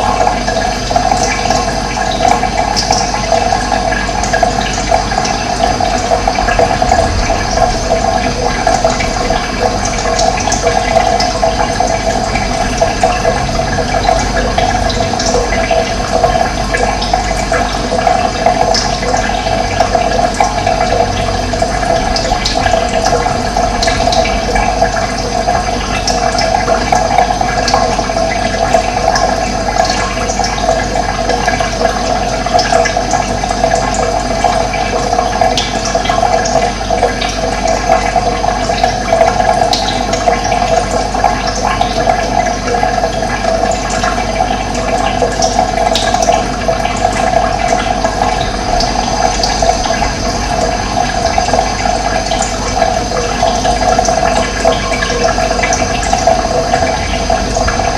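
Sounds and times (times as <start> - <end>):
running water rushing and gurgling: 0.0 - 57.9.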